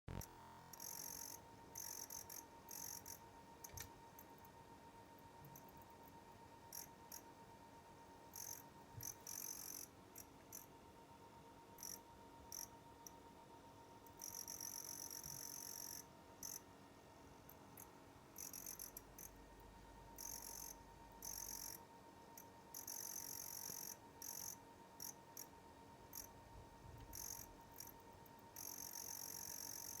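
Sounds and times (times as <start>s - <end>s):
faint steady tone: 0.1s - 30.0s
high-pitched chirring heater: 0.1s - 30.0s.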